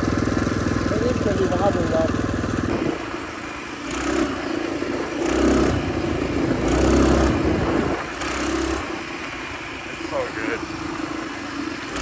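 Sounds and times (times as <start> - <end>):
mini bike engine revving: 0.0 - 12.0.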